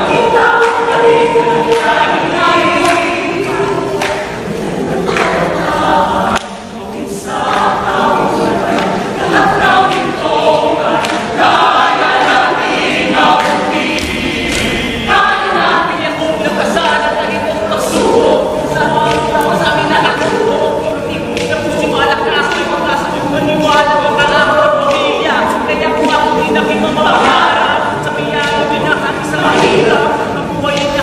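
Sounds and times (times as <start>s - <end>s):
large choir singing: 0.0s - 31.0s.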